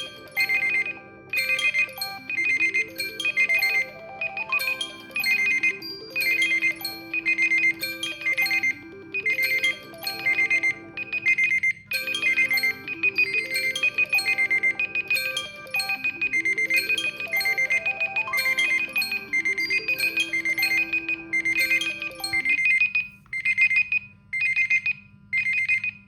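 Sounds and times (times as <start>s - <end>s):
smartphone alarm melody: 0.0s - 26.0s.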